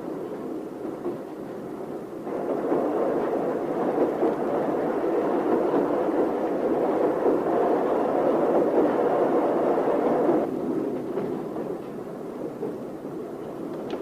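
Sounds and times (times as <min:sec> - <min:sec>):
moving train running noise: 0:00.0 - 0:14.0.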